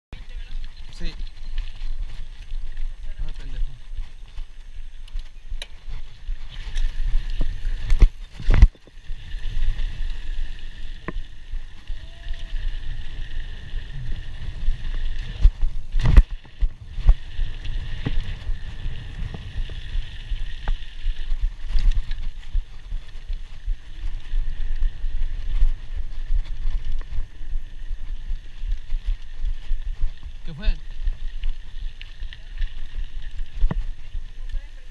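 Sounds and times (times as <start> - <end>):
wind on microphone: 0.2 - 34.9.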